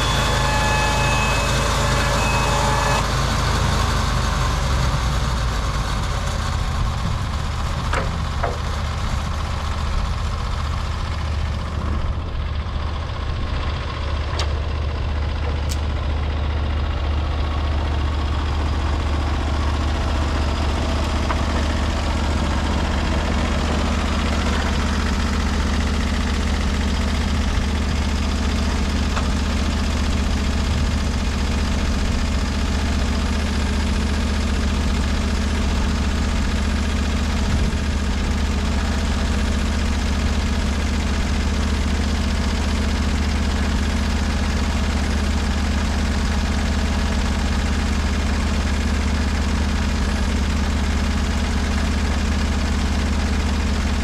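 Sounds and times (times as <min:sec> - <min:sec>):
sawmill engine humming: 0:00.0 - 0:54.0.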